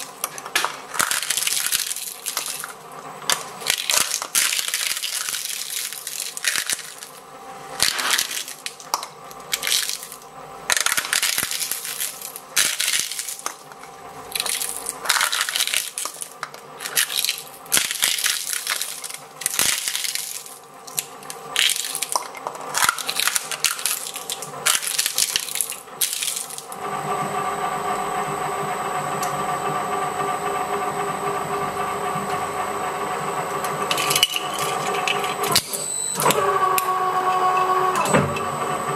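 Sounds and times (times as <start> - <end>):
shredder crunching wafer cones: 0.0 - 26.9, 33.5 - 38.9
empty shredder humming: 0.0 - 38.9.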